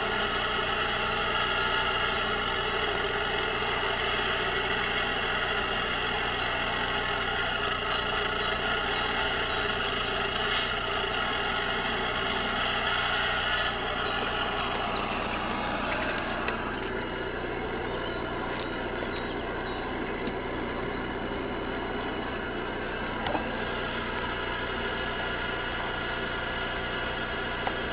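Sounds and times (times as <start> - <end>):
toy truck engine-like whine: 0.0 - 27.9.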